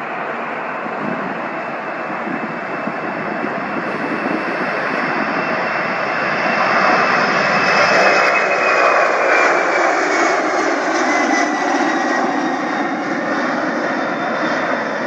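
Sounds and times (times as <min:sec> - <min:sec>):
high jet whine: 0:00.0 - 0:15.0
jet engines roaring at takeoff: 0:00.0 - 0:15.0.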